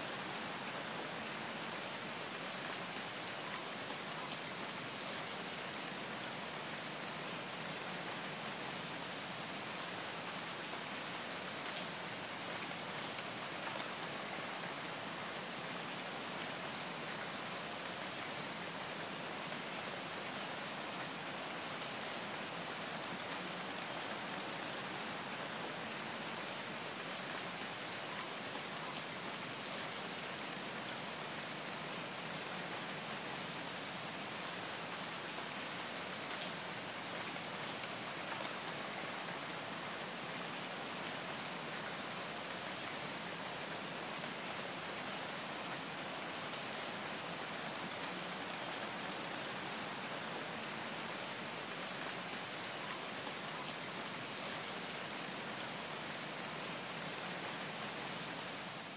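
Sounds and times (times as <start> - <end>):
rain-like hiss: 0.0 - 58.9.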